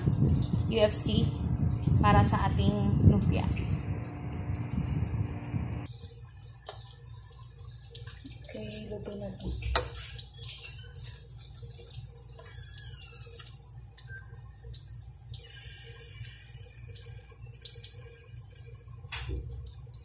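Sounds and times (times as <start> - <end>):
rolls frying in oil: 0.0 - 20.0.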